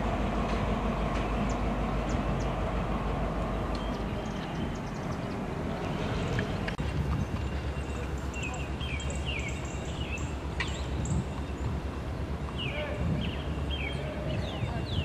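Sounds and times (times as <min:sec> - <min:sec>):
steady low rumble: 0:00.0 - 0:15.0
small birds chirping: 0:01.2 - 0:02.6, 0:03.4 - 0:15.0.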